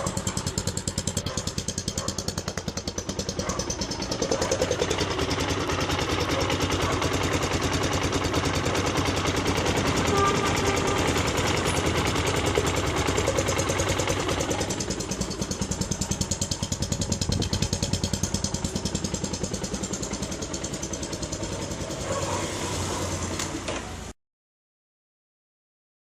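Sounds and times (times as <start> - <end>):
single-cylinder engine idling: 0.0 - 23.7.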